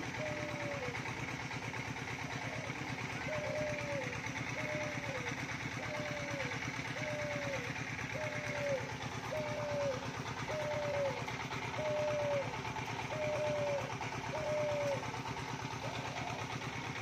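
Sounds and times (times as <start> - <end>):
dove cooing: 0.0 - 17.0
small engine idling: 0.0 - 17.0.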